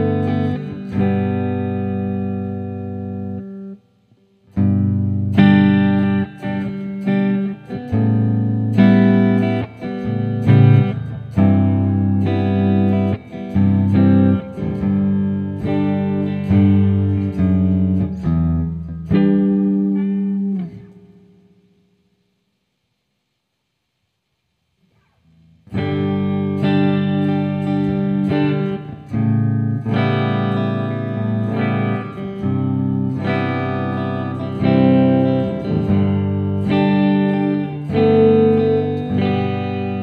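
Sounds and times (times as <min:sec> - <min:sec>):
electric guitar with reverb: 0:00.0 - 0:22.6, 0:24.8 - 0:40.0.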